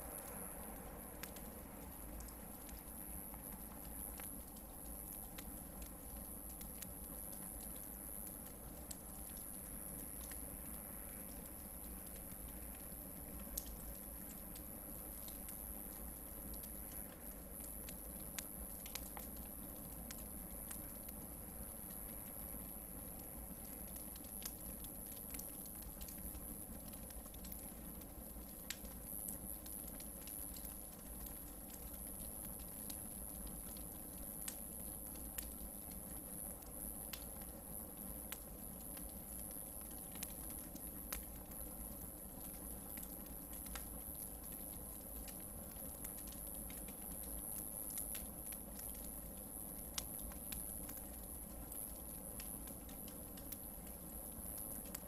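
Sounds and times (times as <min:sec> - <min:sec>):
campfire burning: 0:00.0 - 0:55.0
logs crackling and popping: 0:00.0 - 0:55.0.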